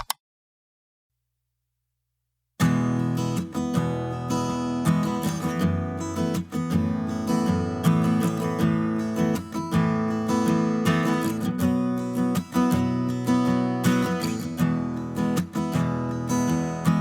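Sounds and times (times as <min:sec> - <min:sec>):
strummed acoustic guitar: 0:02.6 - 0:17.0.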